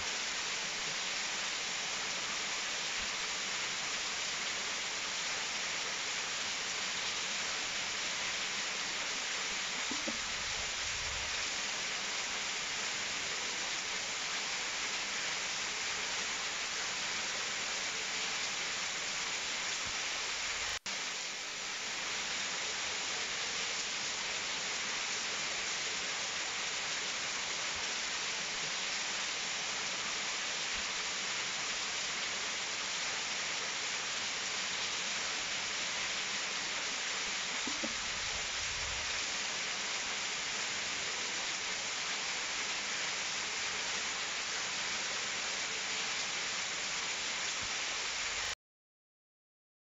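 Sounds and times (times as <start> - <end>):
rushing water: 0.0 - 48.6.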